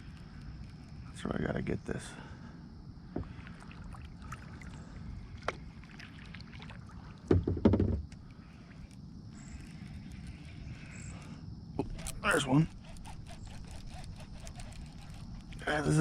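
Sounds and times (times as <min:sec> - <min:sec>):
low rumble of wind and water: 0:00.0 - 0:16.0.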